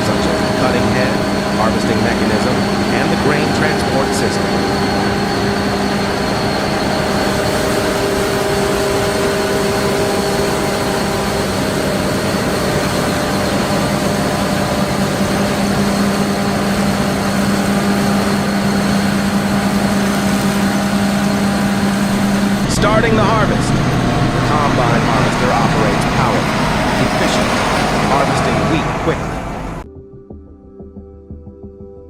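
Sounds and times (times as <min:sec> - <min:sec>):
combine harvester droning: 0:00.0 - 0:29.8.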